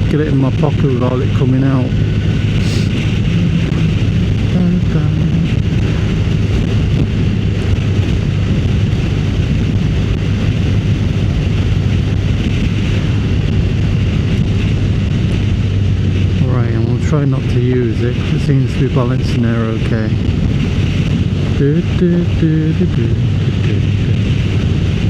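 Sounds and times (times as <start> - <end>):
motorcycle engine running: 0.0 - 25.0
wind noise on microphone: 0.0 - 25.0.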